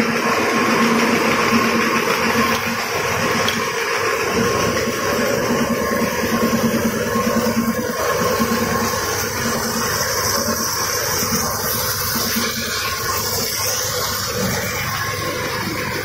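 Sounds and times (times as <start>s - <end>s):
factory machinery running: 0.0s - 16.0s
machinery hum tones: 1.4s - 16.0s.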